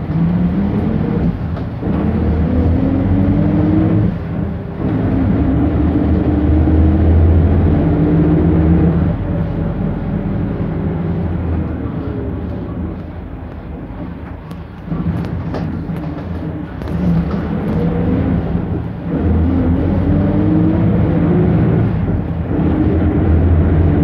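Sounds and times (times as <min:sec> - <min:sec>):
bus diesel engine heard from cabin: 0:00.0 - 0:24.0.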